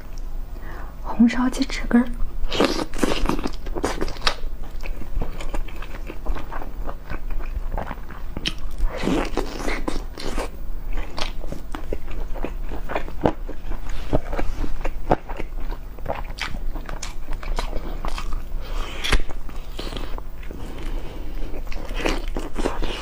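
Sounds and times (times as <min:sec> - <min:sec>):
person chewing chicken wings: 0:02.5 - 0:23.0.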